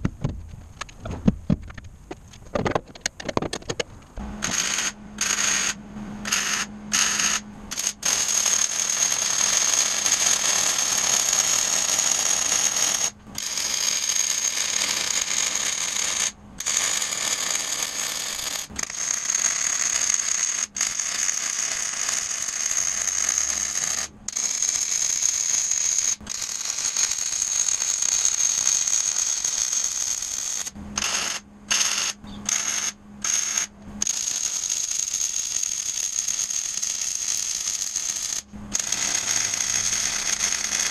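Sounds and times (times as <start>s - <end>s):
welding arc crackling: 4.2s - 40.9s
short tack welds: 4.4s - 40.9s.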